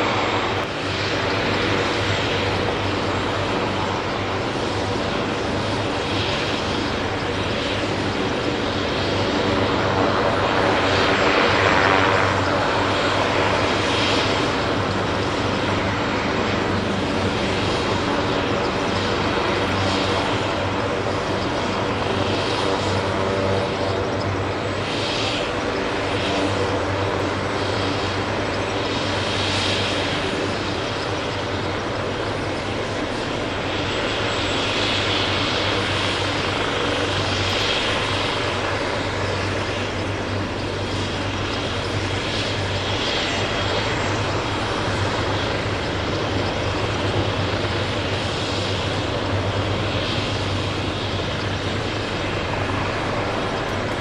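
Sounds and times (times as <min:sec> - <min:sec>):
helicopter engines and rotors droning: 0:00.0 - 0:54.0.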